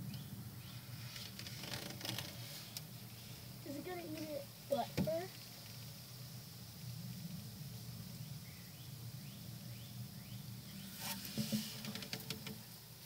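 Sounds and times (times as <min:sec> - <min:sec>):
rustling and clicking in grass: 0:00.0 - 0:09.6, 0:10.6 - 0:13.0.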